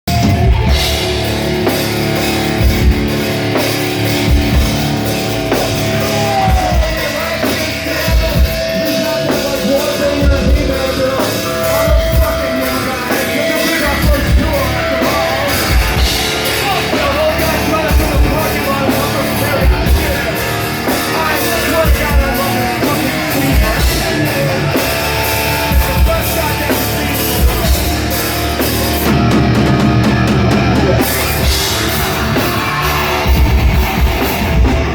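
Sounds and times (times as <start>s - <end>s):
bass: 0.0s - 34.9s
electric guitar chords: 0.1s - 34.9s.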